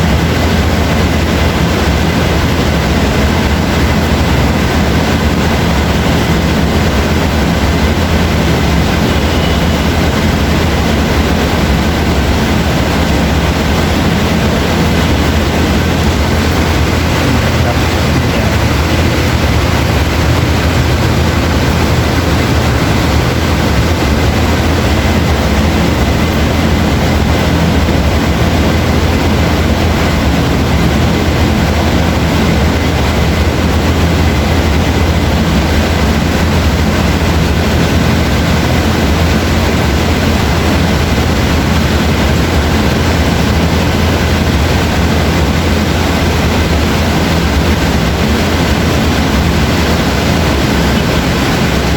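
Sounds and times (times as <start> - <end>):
heavy rain falling: 0.0 - 51.9
low rumble: 0.0 - 51.9.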